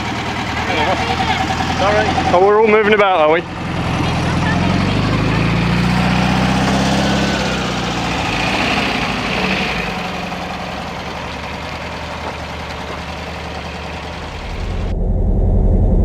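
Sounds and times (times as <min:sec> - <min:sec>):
car engine idling: 0:00.0 - 0:15.1.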